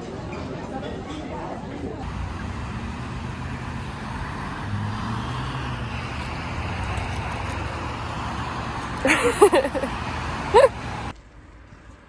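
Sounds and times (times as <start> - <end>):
road vehicle noise: 0.0 - 12.0.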